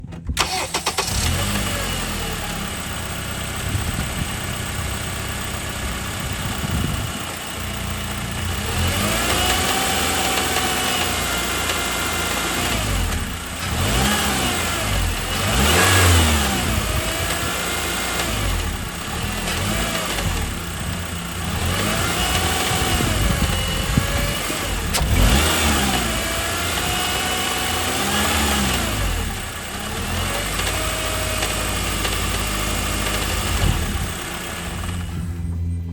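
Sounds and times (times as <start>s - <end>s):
car engine revving with rattle: 0.0s - 35.9s.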